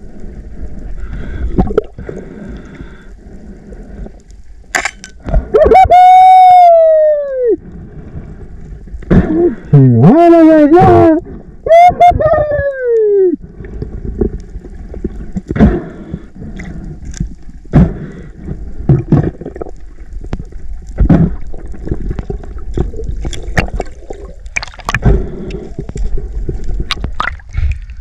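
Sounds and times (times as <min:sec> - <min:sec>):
underwater rush and bubbling: 0:00.0 - 0:06.3, 0:07.0 - 0:28.0.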